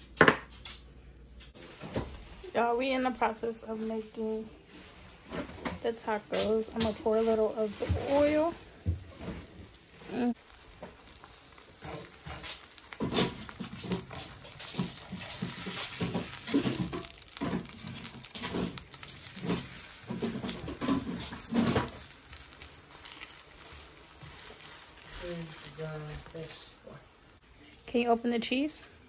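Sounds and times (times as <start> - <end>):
oil sizzling in a pan: 1.6 - 29.0.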